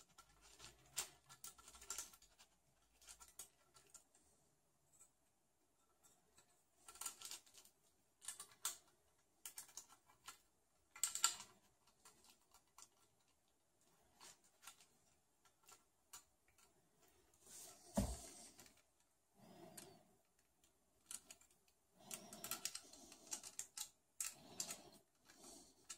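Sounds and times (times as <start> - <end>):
small parts clicking and tapping: 0.0 - 4.2, 5.8 - 17.2, 18.0 - 25.9.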